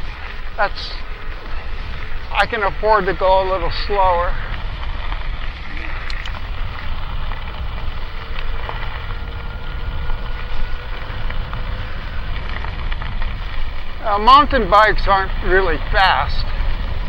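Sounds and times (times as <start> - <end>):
bike tyre noise: 0.0 - 17.0
electric motor whine: 0.0 - 17.0
wind rumbling on microphone: 0.0 - 17.0.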